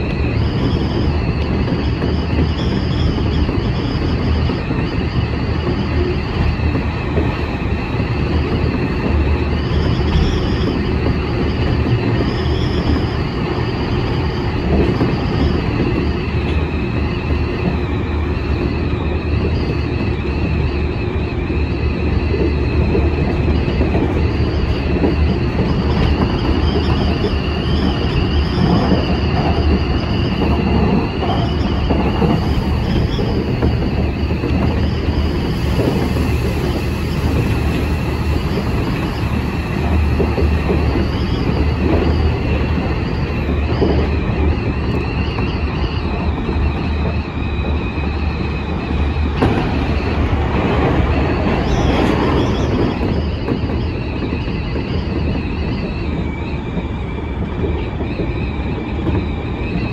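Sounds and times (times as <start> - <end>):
high wavering wheel squeal: 0.0 - 59.9
passing train: 0.0 - 59.9
train wheels rumbling on rail: 0.0 - 59.9.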